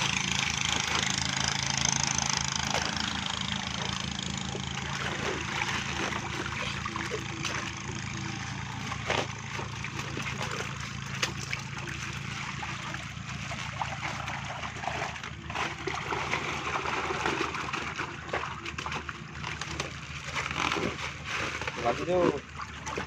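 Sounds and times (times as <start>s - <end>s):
steady low hum: 0.0s - 23.0s
water splashing and dripping: 0.1s - 21.3s, 22.4s - 23.0s.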